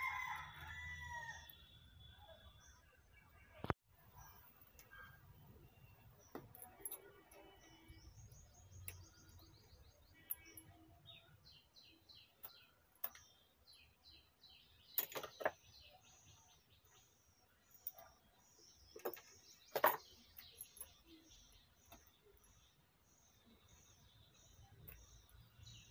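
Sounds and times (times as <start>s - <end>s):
birds chirping: 0.0s - 25.9s.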